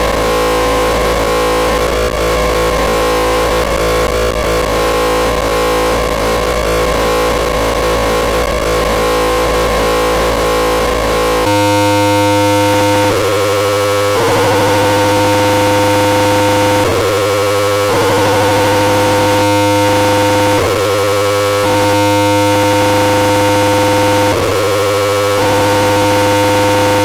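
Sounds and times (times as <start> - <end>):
noisy synthesizer drone: 0.0 - 27.0.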